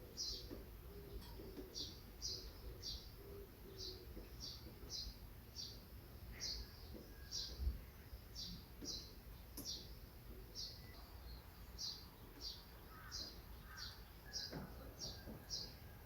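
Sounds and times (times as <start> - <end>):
small songbird chirping: 0.0 - 16.0.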